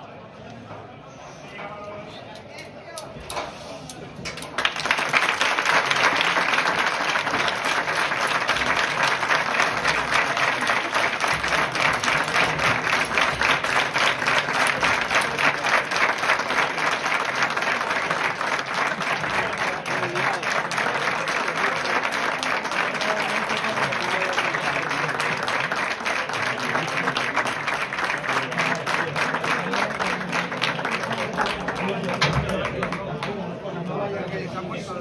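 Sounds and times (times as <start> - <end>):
crowd applauding: 4.2 - 33.6.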